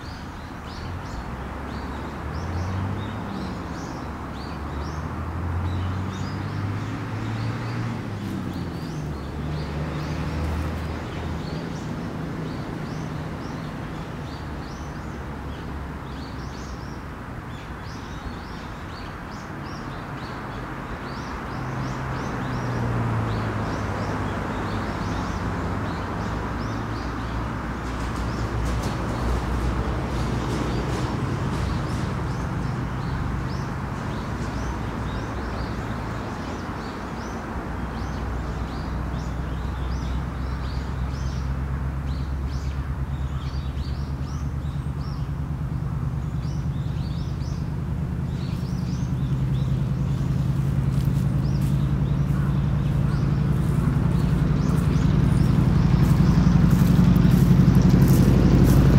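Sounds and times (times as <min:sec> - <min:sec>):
vehicle engine hum: 0:00.0 - 0:58.9.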